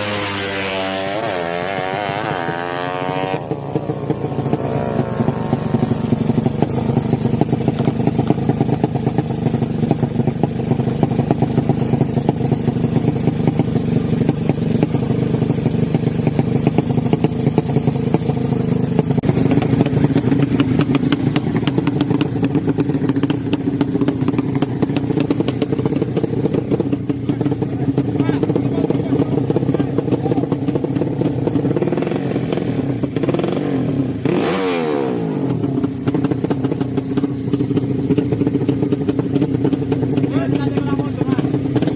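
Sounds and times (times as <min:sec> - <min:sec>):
motorcycle engine crackling: 0:00.0 - 0:32.2, 0:35.5 - 0:41.9.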